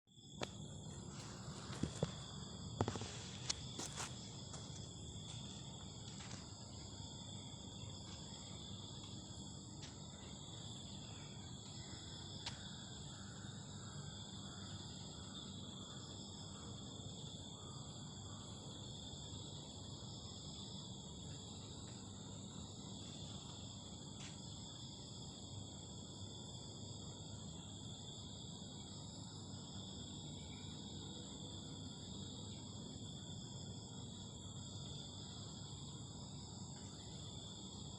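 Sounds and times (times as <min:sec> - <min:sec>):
insects chirring: 0:00.1 - 0:37.9.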